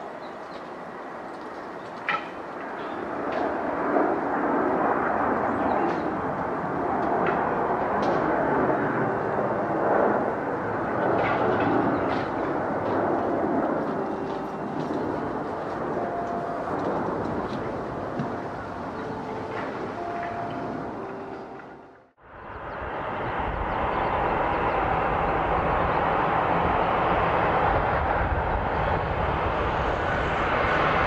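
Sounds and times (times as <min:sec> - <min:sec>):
jet airliner engines running: 0:00.0 - 0:31.0.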